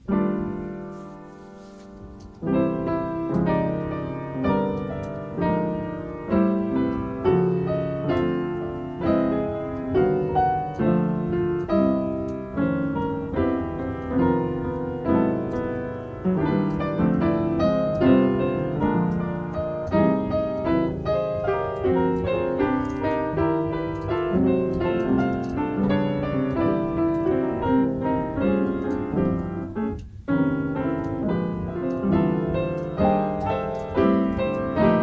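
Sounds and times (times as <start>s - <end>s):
piano chords: 0.0s - 35.0s.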